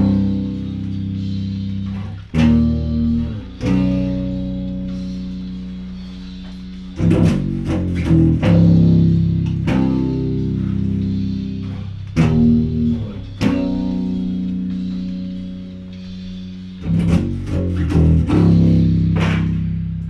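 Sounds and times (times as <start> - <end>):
electric bass guitar notes: 0.0 - 20.0.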